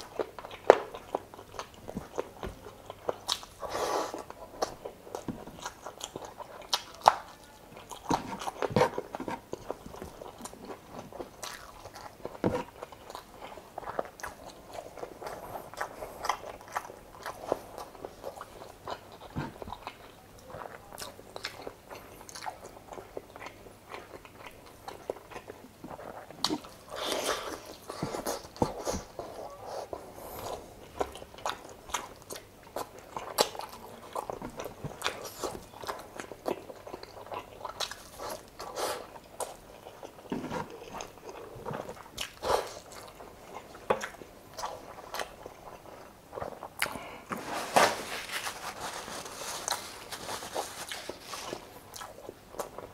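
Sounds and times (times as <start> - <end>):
person chewing with mouth clicks: 0.0 - 47.5, 49.3 - 52.9.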